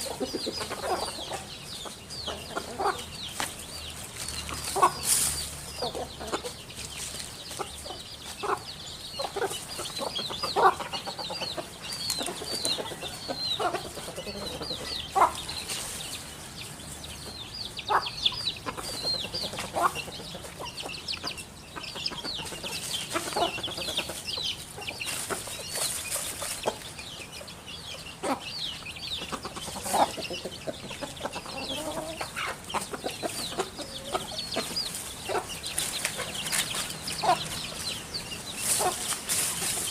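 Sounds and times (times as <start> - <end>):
bird clucking calls: 0.0 - 39.9.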